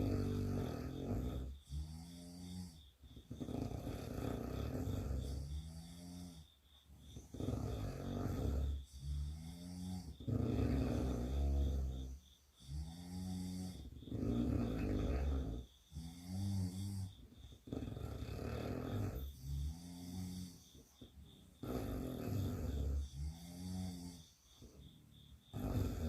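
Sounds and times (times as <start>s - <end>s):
girls snoring: 0.0s - 6.5s, 7.1s - 26.0s.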